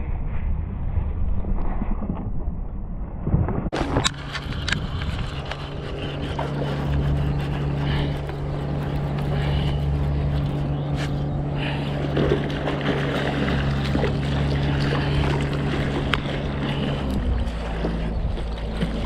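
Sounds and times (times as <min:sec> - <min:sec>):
low motor drone: 0:00.0 - 0:19.0
wind rumbling on microphone: 0:00.0 - 0:19.0.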